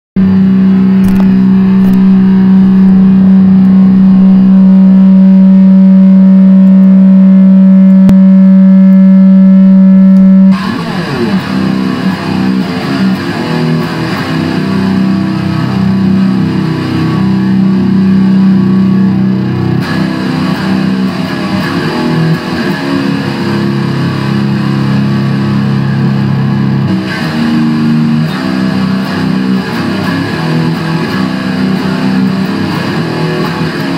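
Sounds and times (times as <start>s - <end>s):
distorted electric guitar: 0.1s - 33.9s.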